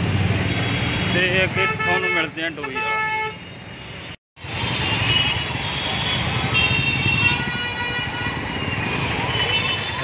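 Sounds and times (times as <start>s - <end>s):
motorbikes and cars running: 0.0s - 1.9s, 3.7s - 10.0s
vehicle horns: 0.5s - 3.6s, 4.6s - 10.0s.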